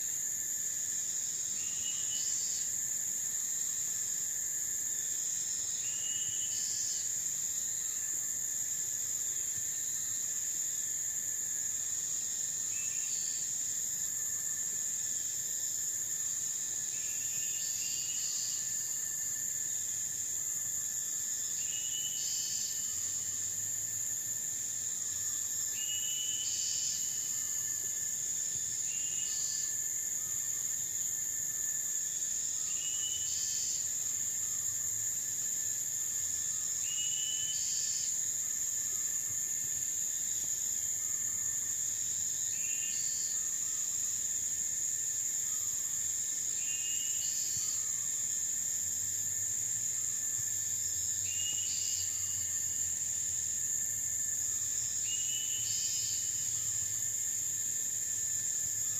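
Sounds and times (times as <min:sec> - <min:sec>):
high-pitched insect drone: 0:00.0 - 0:58.9.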